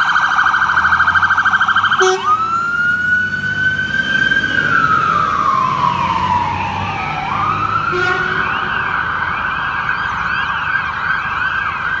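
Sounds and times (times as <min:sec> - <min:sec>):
fast up-and-down siren: 0:00.0 - 0:12.0
fire engines rumbling: 0:00.0 - 0:12.0
slow wailing siren: 0:00.0 - 0:12.0.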